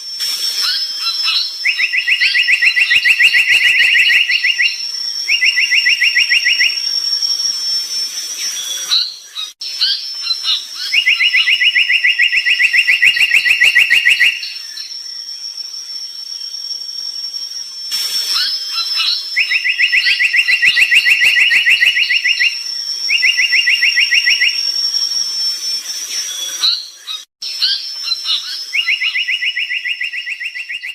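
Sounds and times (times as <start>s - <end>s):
steady high whine: 0.0s - 13.7s, 14.4s - 30.9s
bird calling in trills: 0.0s - 30.9s
faint chirps: 0.0s - 30.9s.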